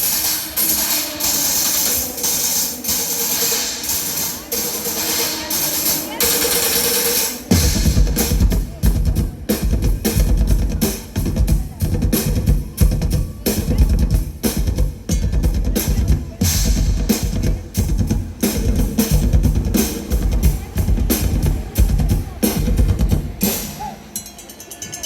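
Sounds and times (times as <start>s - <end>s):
drum kit music: 0.0s - 25.0s.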